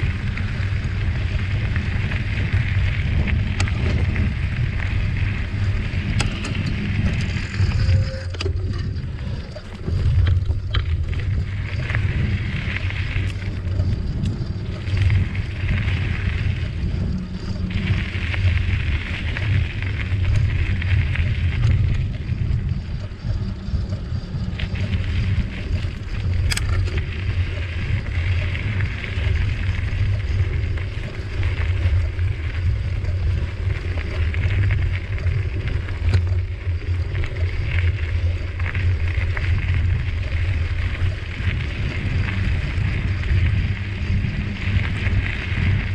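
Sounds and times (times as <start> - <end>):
bicycle tyres hissing over ground: 0.0 - 45.9
wind rumbling on microphone: 0.0 - 45.9.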